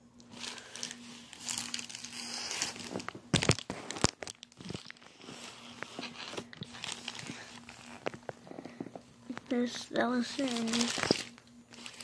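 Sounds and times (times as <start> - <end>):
packaging crumpling and rustling: 0.2 - 12.0
sharp crinkles and knocks: 0.3 - 9.7, 10.3 - 12.0.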